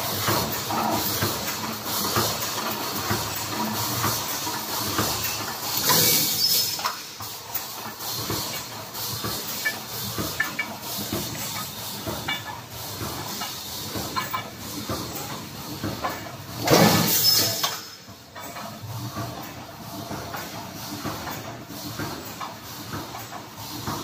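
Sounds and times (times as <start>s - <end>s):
machine mechanical clatter: 0.0s - 24.0s.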